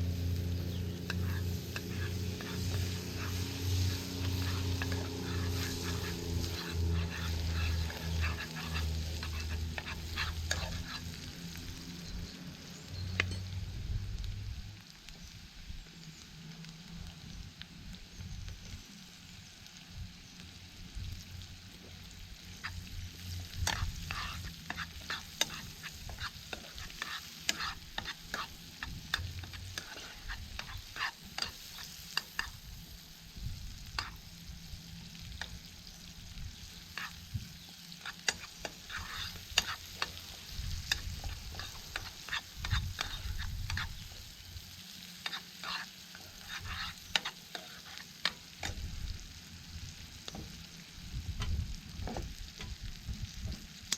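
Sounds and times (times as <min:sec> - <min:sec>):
campfire crackles: 0:00.0 - 0:53.9
food sizzling in a pan: 0:00.0 - 0:53.9.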